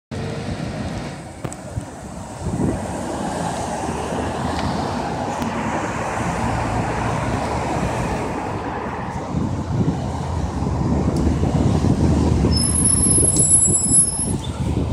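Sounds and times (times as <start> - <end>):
bus diesel engine hum: 0.1 - 14.9
road traffic noise: 0.1 - 14.9
wind on microphone: 0.3 - 14.9.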